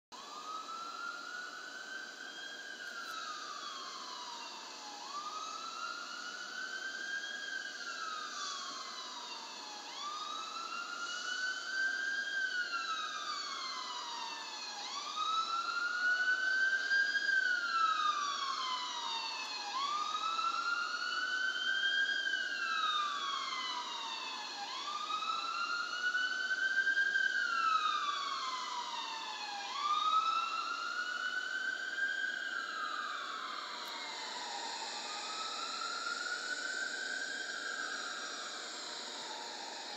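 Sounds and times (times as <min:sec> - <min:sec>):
ambulance siren wailing: 0:00.2 - 0:39.9.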